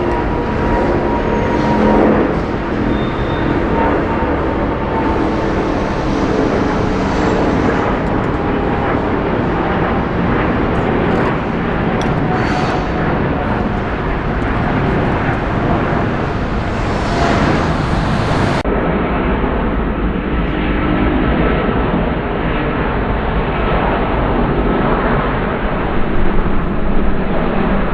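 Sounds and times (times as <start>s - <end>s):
jet engines roaring: 0.0s - 27.9s.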